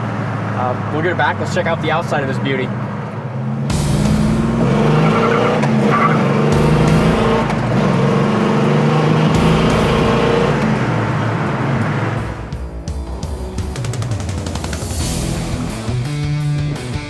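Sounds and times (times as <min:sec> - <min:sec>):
car engine running under load: 0:00.0 - 0:15.7.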